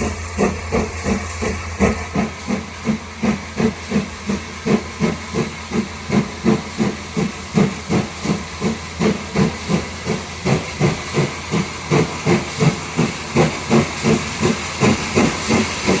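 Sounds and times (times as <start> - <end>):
steam hiss: 0.0 - 16.0
steam locomotive exhaust beats: 0.0 - 16.0.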